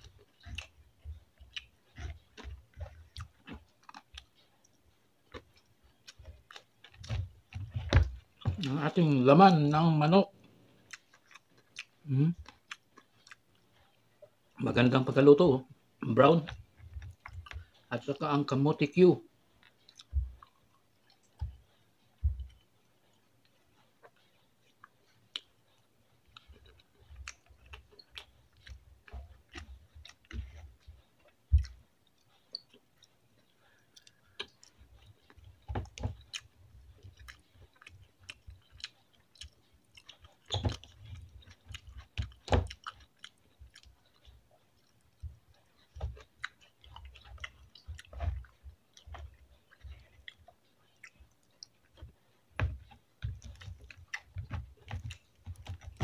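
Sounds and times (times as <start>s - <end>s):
person chewing and biting food: 0.0s - 15.2s, 16.0s - 18.1s, 19.5s - 56.0s.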